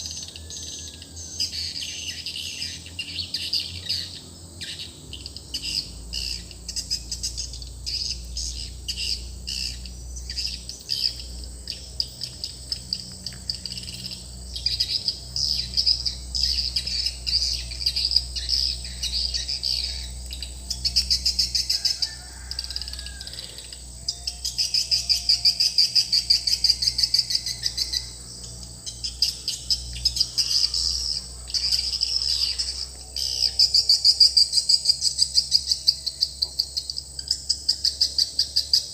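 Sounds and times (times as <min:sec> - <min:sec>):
steady low hum: 0:00.0 - 0:38.9
swiftlet twittering chirps: 0:00.0 - 0:38.9.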